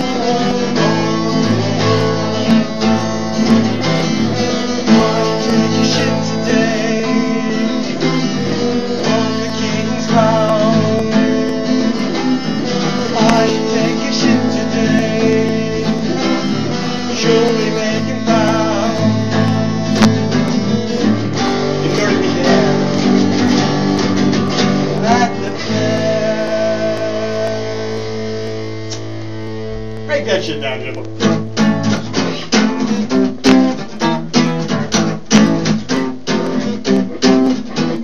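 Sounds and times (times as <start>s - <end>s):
electric guitar: 0.0s - 38.0s
strummed acoustic guitar: 0.0s - 38.0s.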